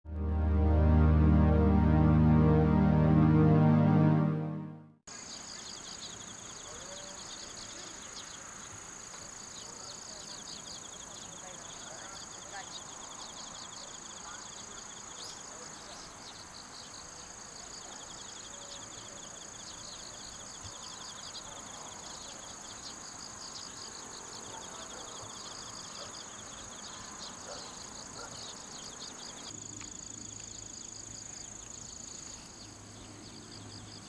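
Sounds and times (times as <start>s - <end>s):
insect chirps: 5.1s - 34.0s
insects trilling: 5.1s - 34.0s.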